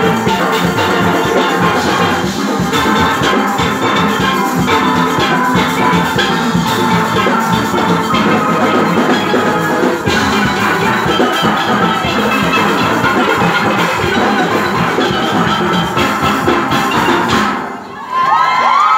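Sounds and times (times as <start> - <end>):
steelpan band playing: 0.0 - 18.1
drums and percussion: 0.0 - 18.4.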